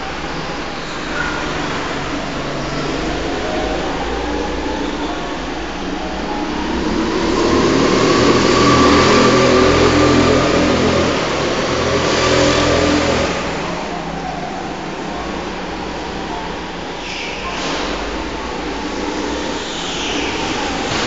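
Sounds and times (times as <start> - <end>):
go-kart engines passing: 0.0 - 21.0.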